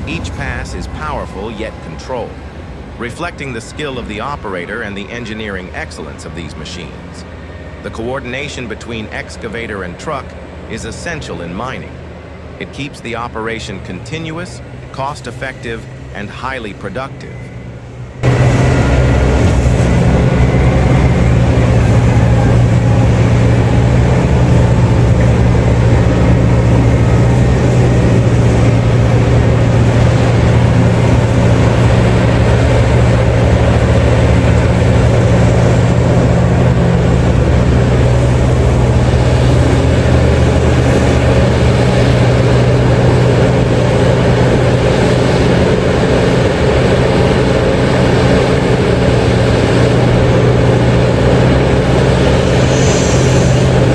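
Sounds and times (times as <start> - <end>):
big diesel engines droning: 0.0 - 53.9.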